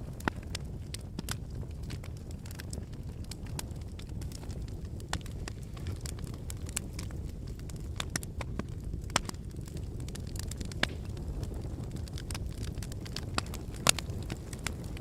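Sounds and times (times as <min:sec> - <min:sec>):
fire crackling: 0:00.0 - 0:15.0
pops and snaps of fire: 0:00.0 - 0:15.0.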